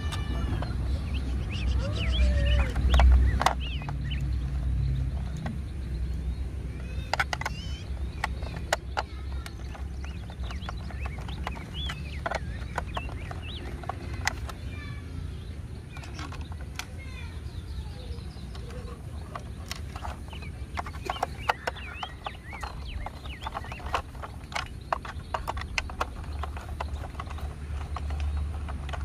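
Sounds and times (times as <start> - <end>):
plastic parts clicking: 0.0 - 29.0.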